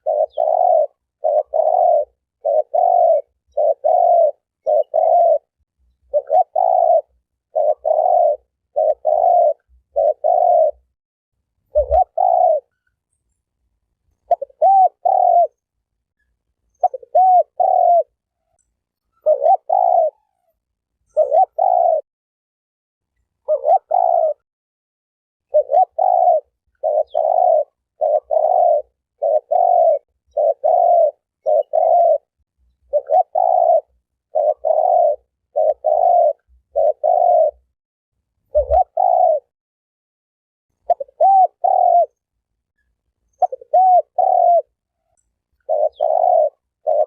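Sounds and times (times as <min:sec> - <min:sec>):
dove cooing: 0:00.0 - 0:10.9, 0:11.7 - 0:12.8, 0:14.2 - 0:15.7, 0:16.7 - 0:22.1, 0:23.4 - 0:24.4, 0:25.5 - 0:37.7, 0:38.4 - 0:39.5, 0:40.8 - 0:42.3, 0:43.3 - 0:47.0.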